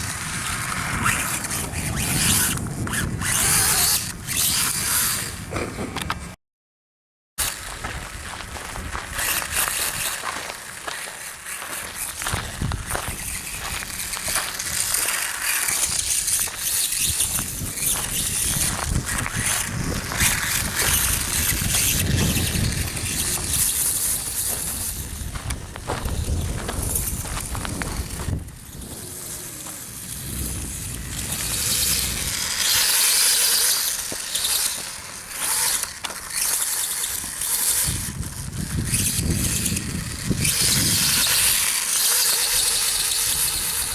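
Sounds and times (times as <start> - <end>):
electric motor whine: 0.0 - 6.3, 7.4 - 43.9
tyres crunching on gravel: 7.4 - 43.9.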